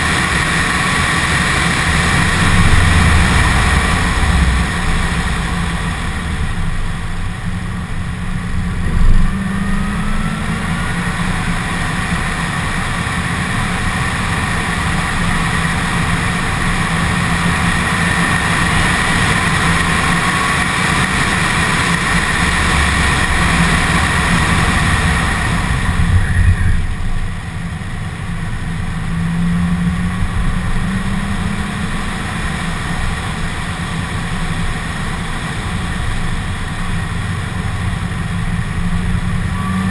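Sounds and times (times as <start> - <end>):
car engine revving hard: 0.0 - 39.9
high supercharger whine: 0.0 - 39.9.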